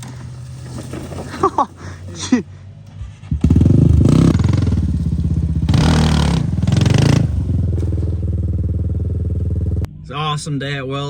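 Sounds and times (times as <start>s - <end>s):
off-road vehicle engine revving: 0.0s - 9.9s.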